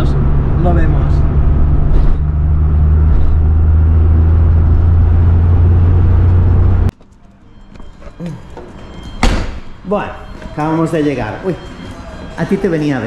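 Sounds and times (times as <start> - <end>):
car engine drone and road noise: 0.0 - 10.6.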